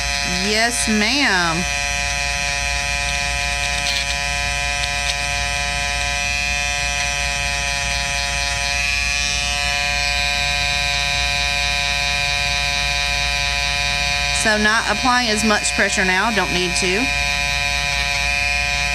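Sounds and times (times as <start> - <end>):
electric trimmer buzzing: 0.0 - 18.9.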